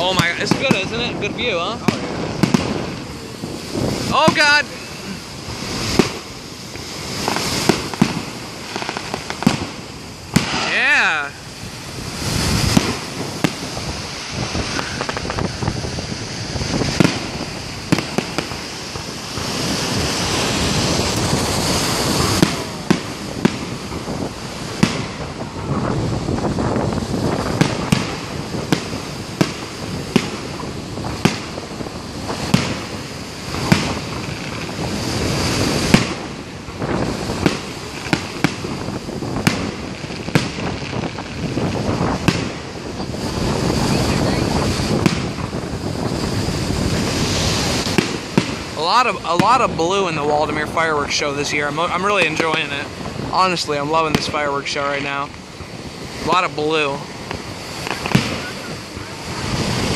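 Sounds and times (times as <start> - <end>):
fireworks shell bursts: 0.0 - 25.4, 27.1 - 43.9, 51.9 - 58.8
steady rushing noise: 0.0 - 59.9.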